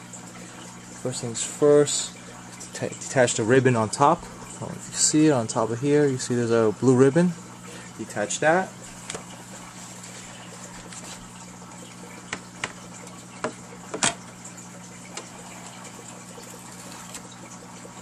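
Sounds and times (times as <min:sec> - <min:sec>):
steady low hum and hiss: 0:00.0 - 0:18.0.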